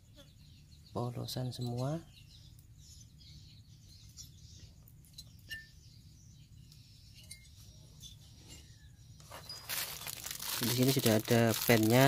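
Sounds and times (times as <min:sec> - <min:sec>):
faint bird chirp: 0:00.0 - 0:12.0.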